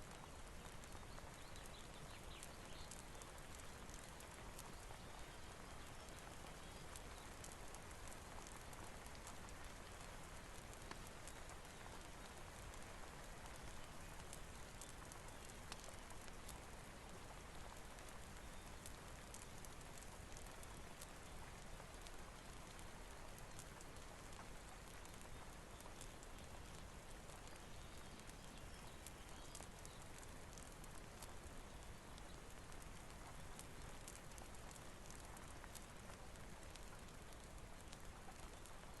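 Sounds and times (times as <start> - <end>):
faint steady rain: 0.0 - 39.0
fireplace crackling: 0.1 - 39.0.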